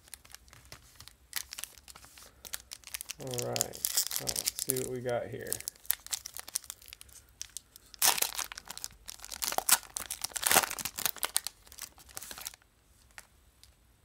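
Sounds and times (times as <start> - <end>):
plastic wrapper tearing and crinkling: 0.0 - 13.3.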